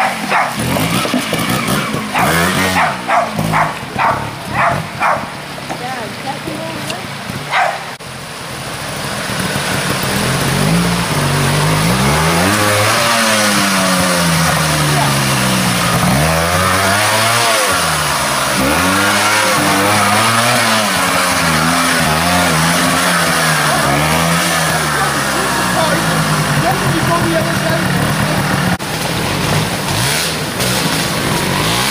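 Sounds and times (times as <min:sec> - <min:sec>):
motorcycle engine revving: 0:00.0 - 0:31.9
rushing water: 0:00.0 - 0:31.9.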